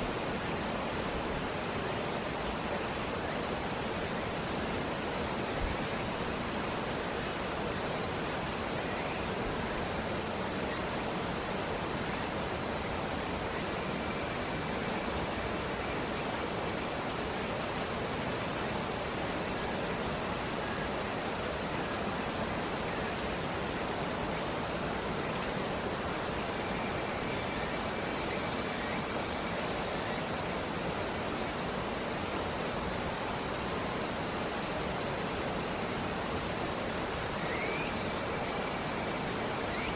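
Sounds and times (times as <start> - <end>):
higher pulsing insect song: 0.0 - 39.9.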